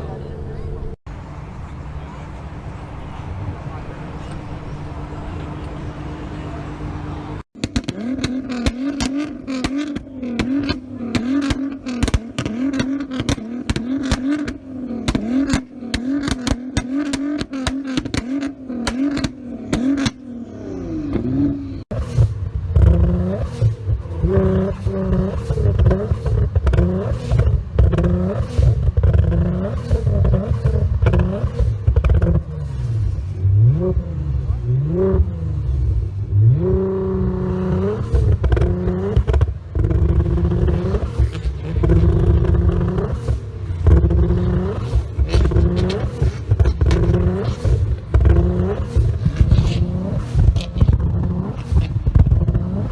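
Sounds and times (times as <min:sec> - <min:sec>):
car engine revving: 0:00.0 - 0:52.9
exhaust pops and bangs: 0:07.2 - 0:20.3, 0:21.1 - 0:52.9.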